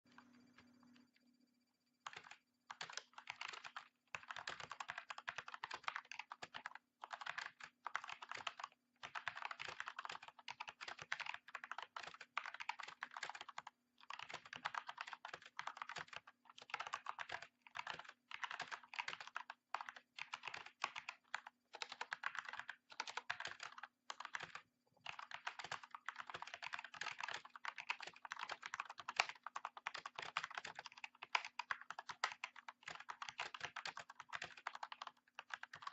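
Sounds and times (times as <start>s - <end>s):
mechanical keyboard typing: 2.0s - 35.9s.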